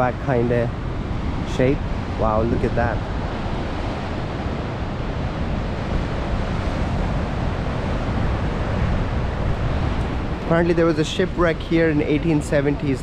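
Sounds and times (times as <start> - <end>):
wind buffeting microphone: 0.0 - 13.0
surf breaking against cliffs: 0.1 - 13.0.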